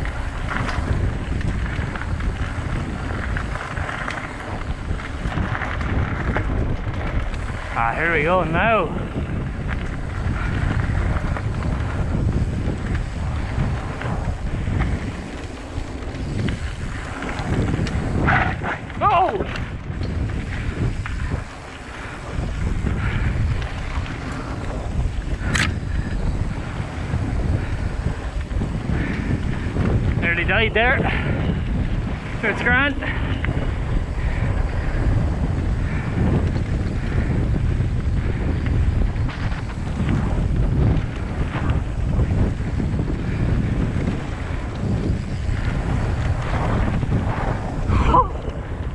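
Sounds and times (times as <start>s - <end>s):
bike clicks and rattles: 0.0s - 48.9s
tyres rolling on gravel: 0.0s - 48.9s
wind buffeting microphone: 0.0s - 48.9s.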